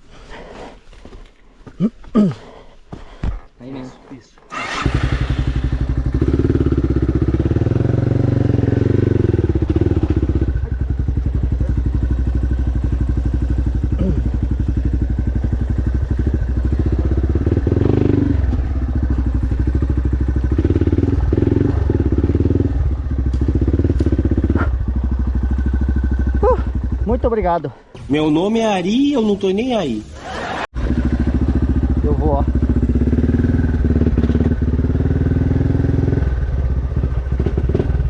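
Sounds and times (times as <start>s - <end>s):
dirt bike engine revving: 4.5s - 27.5s, 30.3s - 38.0s.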